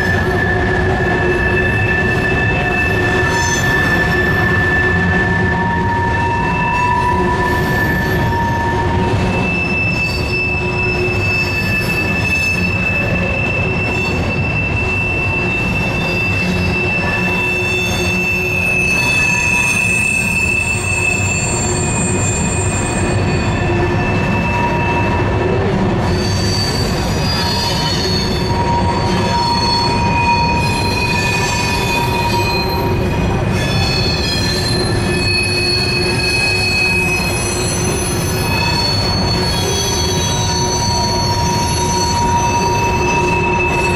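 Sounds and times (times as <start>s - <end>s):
high-pitched wheel squeals: 0.0s - 43.9s
train wheels rumbling on rail: 0.0s - 43.9s.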